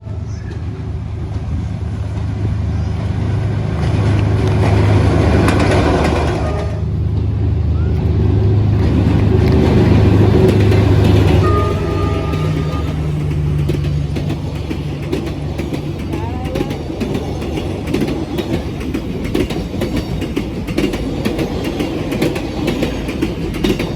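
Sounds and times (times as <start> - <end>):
diesel locomotive engine running: 0.0 - 23.9.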